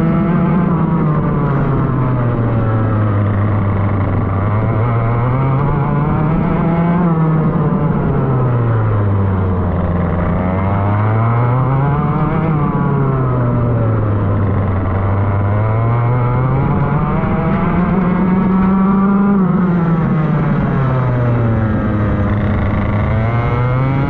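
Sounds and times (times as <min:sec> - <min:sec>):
go-kart engine revving: 0:00.0 - 0:24.0.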